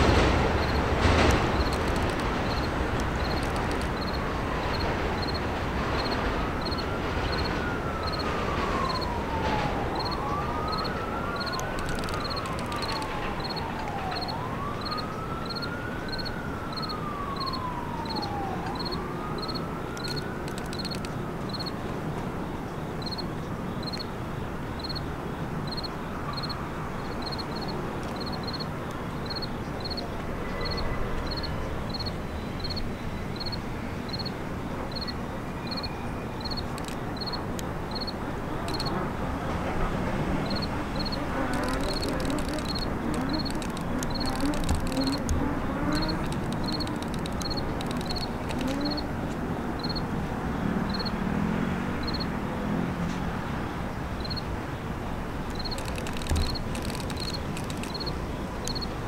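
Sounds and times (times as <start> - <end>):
emergency vehicle siren wailing: 0.0 - 53.5.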